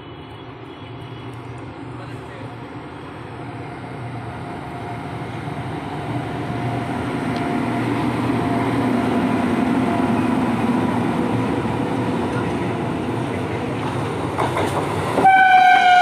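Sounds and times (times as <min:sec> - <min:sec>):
electric locomotive hum: 0:00.0 - 0:16.0
train wheel rumble: 0:01.7 - 0:16.0.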